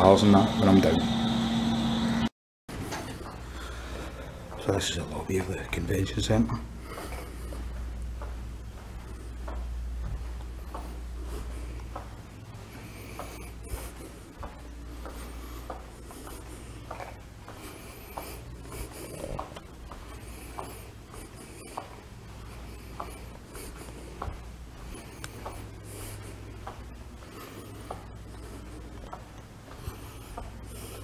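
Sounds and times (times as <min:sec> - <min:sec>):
steady low hum: 0:00.0 - 0:31.0
footsteps on carpet: 0:02.7 - 0:31.0.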